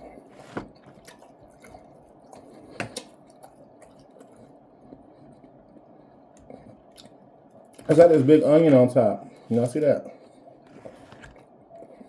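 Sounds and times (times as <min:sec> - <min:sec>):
faint chewing and mouth sounds: 0:00.0 - 0:12.0.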